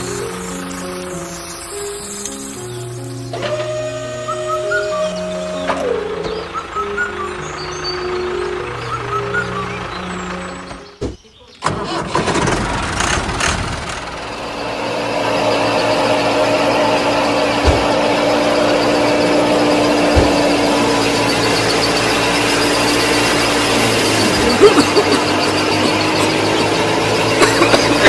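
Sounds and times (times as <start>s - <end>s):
small motor whining: 0.0s - 10.8s, 11.7s - 28.0s.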